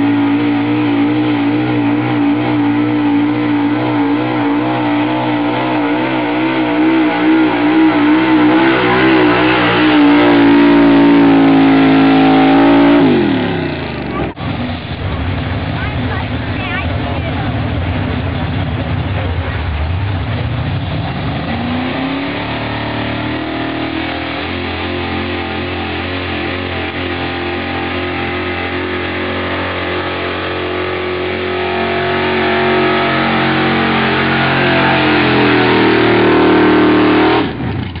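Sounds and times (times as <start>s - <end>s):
truck engine revving hard: 0.0s - 38.0s.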